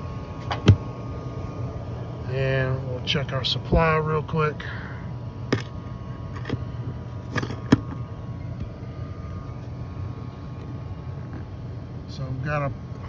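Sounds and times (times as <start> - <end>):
furnace blower humming: 0.0 - 13.0.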